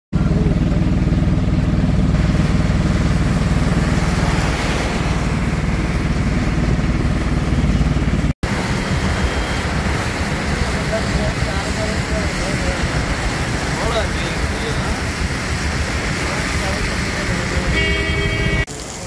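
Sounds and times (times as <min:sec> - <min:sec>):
car engine and road rumble: 0:00.1 - 0:19.0
tyres hissing on wet road: 0:01.6 - 0:07.6, 0:08.4 - 0:19.0.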